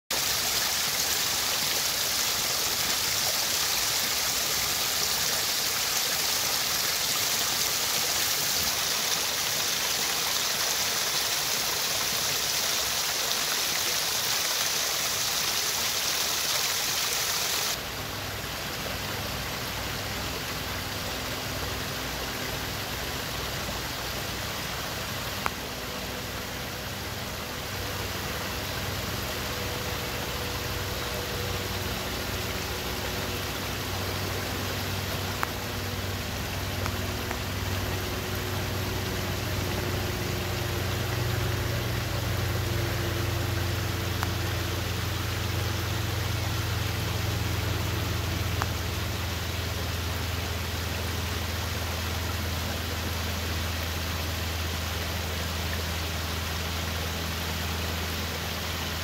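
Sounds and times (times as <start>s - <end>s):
stream water rushing: 0.1s - 59.0s.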